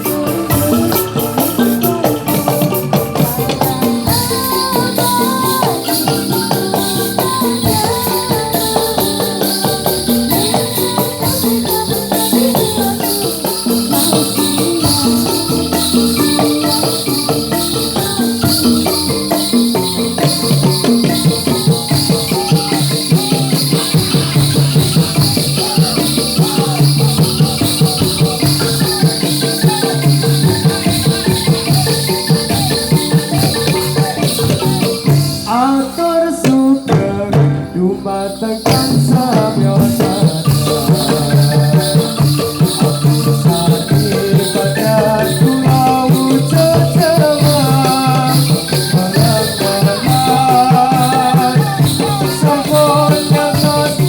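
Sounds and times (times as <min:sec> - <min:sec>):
drum beats: 0:00.0 - 0:54.0
melody line: 0:00.0 - 0:54.0
small bells jingling: 0:00.0 - 0:54.0.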